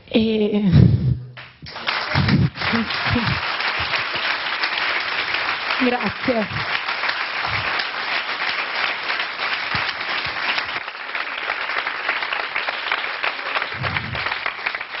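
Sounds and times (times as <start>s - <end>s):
audience applauding: 1.4s - 15.0s.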